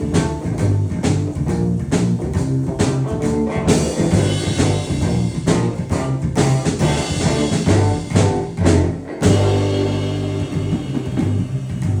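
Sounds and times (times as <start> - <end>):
band playing guitar and drums: 0.0 - 12.0.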